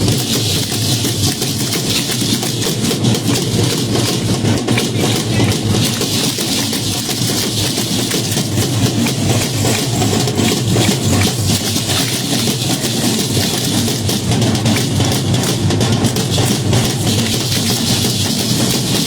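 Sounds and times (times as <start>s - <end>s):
distorted drum-led dance music: 0.0s - 19.0s.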